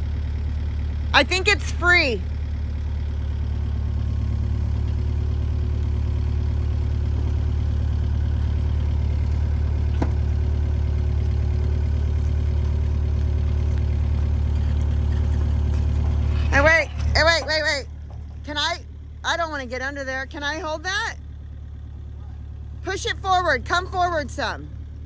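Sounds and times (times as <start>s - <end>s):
machine engine idling: 0.0s - 25.0s.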